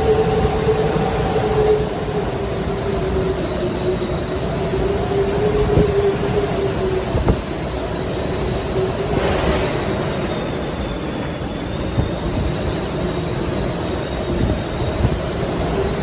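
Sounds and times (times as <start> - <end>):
wind roaring and whistling: 0.0 - 16.0.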